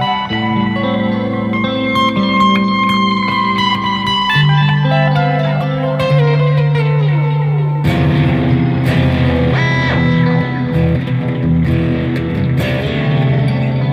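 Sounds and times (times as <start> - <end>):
electric guitar playing: 0.0 - 13.9
looped backing part: 0.0 - 13.9.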